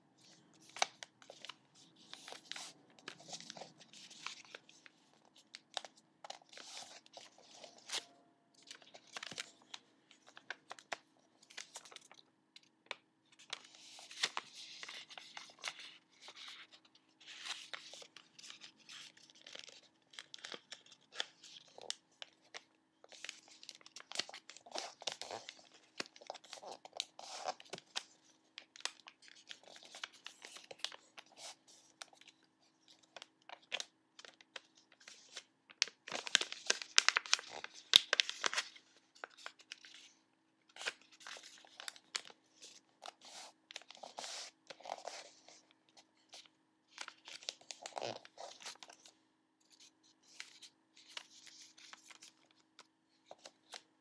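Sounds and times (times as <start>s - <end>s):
paper crinkling and rustling: 0.2s - 53.9s.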